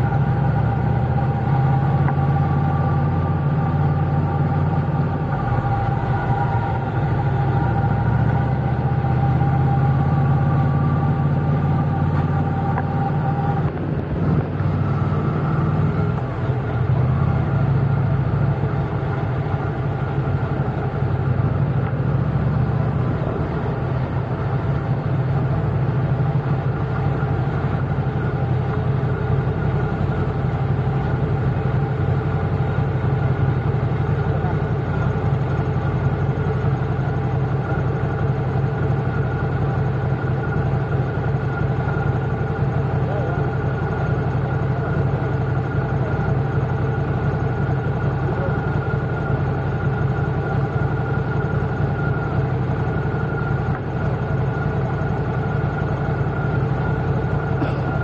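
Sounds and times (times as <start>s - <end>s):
high-pitched whine: 0.0s - 58.0s
motorcycle engine running: 0.0s - 58.0s
road and traffic noise: 0.0s - 58.0s.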